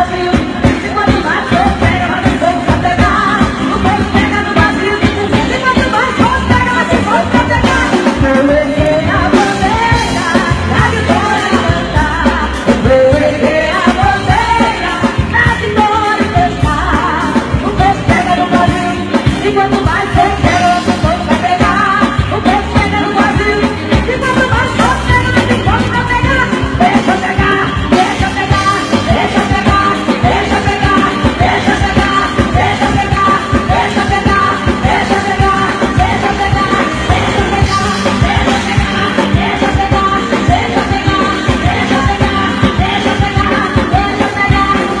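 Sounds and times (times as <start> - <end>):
band with driving beat: 0.0 - 45.0
gospel singing: 0.0 - 45.0.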